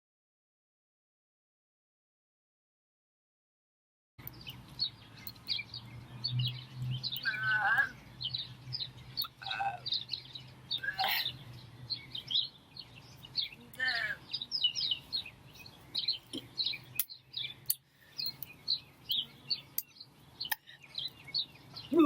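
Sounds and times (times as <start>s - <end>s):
small birds chirping: 4.2s - 22.0s.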